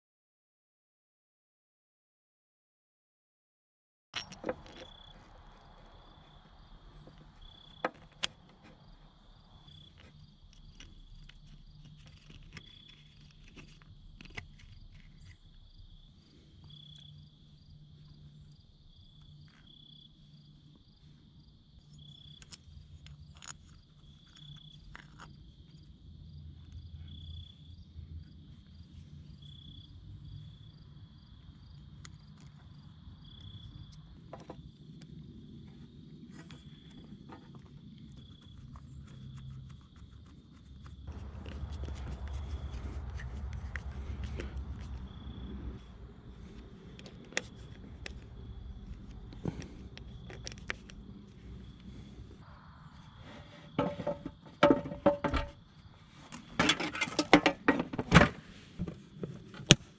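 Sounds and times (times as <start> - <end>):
insects trilling: 4.2 - 58.0
faint low hum: 4.2 - 59.9.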